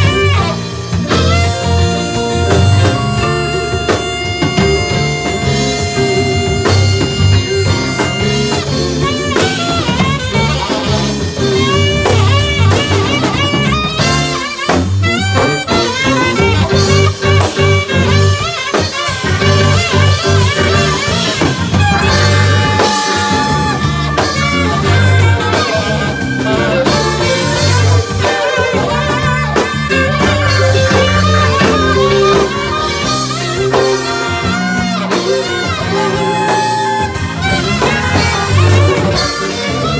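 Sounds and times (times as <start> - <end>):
bass: 0.0 - 39.9
drum kit beat: 0.0 - 39.9
electric guitar: 0.0 - 39.9
saxophone melody: 0.0 - 39.9.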